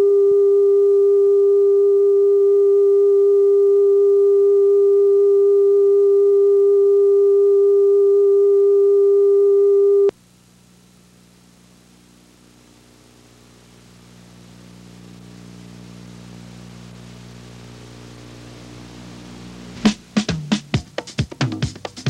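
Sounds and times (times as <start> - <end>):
tape hiss: 0.0 - 22.0.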